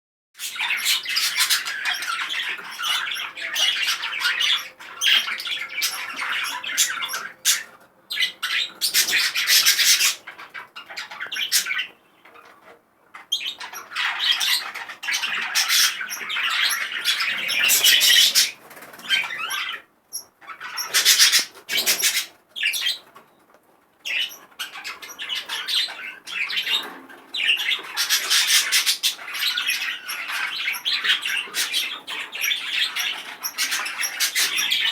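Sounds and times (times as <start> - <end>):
budgerigar chattering and squawking: 0.4 - 12.5, 13.2 - 23.1, 24.1 - 34.9.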